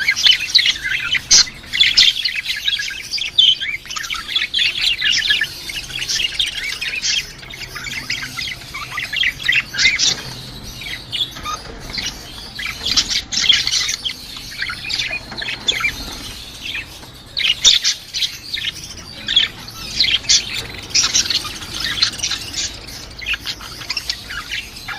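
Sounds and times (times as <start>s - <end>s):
lovebirds chirping and squawking: 0.0s - 24.9s.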